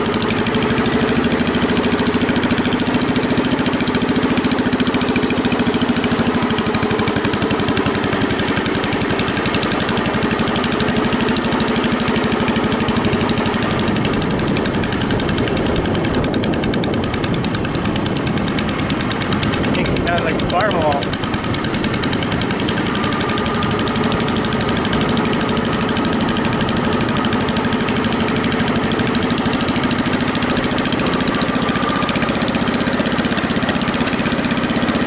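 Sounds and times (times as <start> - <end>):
garden tractor engine running: 0.0 - 35.0.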